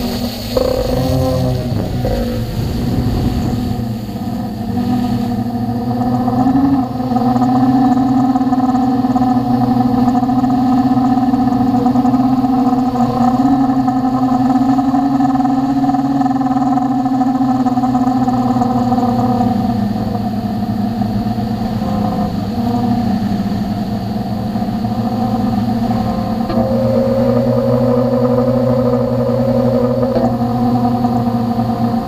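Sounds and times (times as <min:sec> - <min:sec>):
drone propellers humming: 0:00.0 - 0:32.0.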